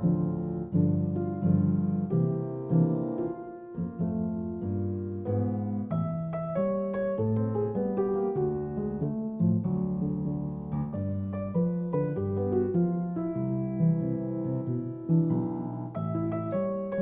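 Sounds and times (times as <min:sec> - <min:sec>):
background piano music: 0:00.0 - 0:17.0.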